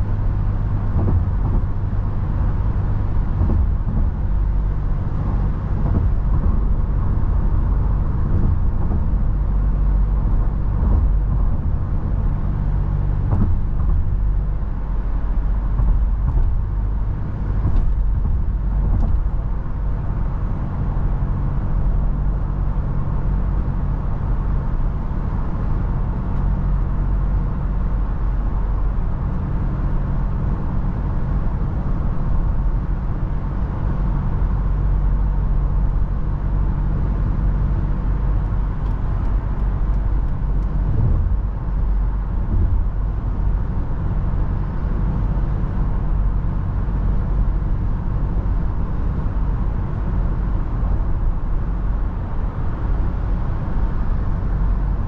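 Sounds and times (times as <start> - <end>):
car engine drone: 0.0 - 55.0
road and wind noise: 0.0 - 55.0.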